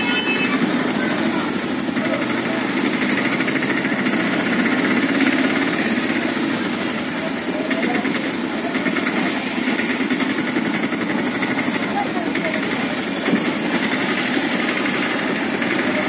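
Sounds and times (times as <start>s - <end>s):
busy street noise: 0.0s - 16.0s
small engine running steadily: 0.0s - 16.0s.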